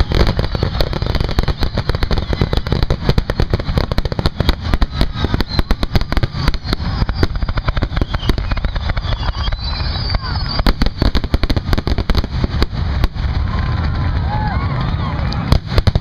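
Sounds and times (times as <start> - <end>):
fireworks exploding: 0.0 - 16.0.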